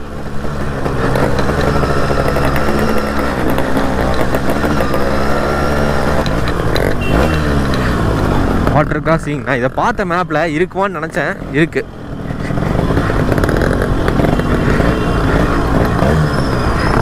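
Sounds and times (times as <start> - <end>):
two-stroke motorcycle engines: 0.0 - 17.0.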